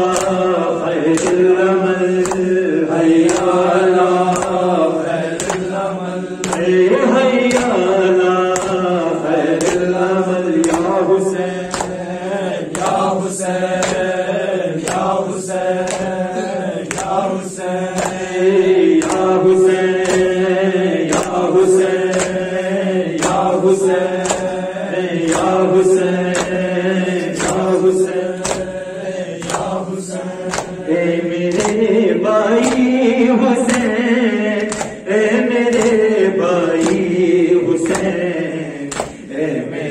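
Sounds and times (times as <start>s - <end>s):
hand-on-chest slaps: 0.0s - 1.5s, 2.2s - 5.8s, 6.4s - 7.9s, 8.5s - 19.4s, 20.0s - 20.4s, 21.0s - 30.8s, 31.5s - 31.9s, 32.6s - 33.0s, 33.6s - 34.0s, 34.6s - 35.0s, 35.7s - 36.1s, 36.7s - 38.2s, 38.8s - 39.3s
man chanting through a microphone: 0.0s - 39.9s.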